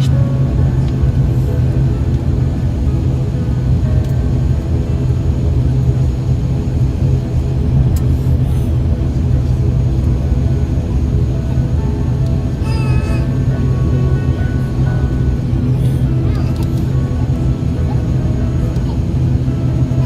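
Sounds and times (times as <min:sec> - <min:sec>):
aircraft engines humming low: 0:00.0 - 0:20.0.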